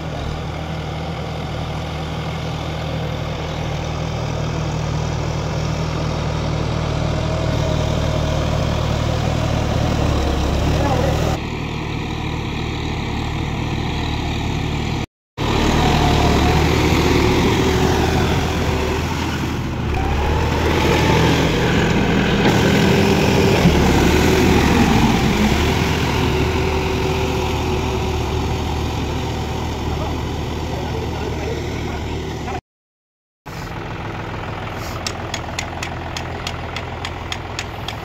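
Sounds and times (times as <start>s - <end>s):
tractor diesel engine running: 0.0s - 32.6s, 33.5s - 38.0s.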